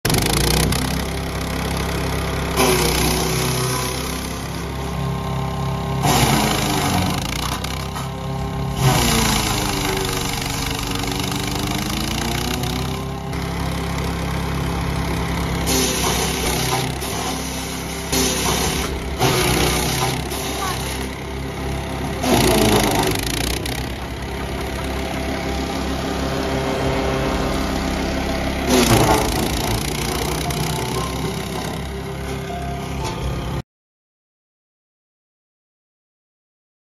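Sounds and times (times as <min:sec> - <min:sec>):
wood chipper engine running: 0:00.0 - 0:33.6.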